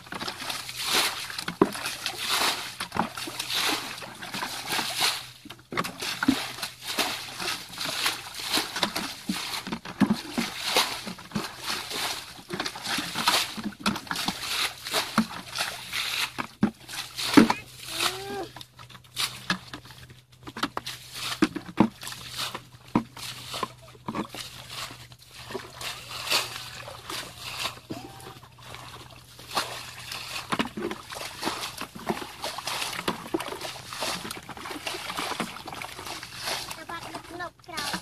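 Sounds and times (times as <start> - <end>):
muddy water sloshing and splashing: 0.0 - 38.0.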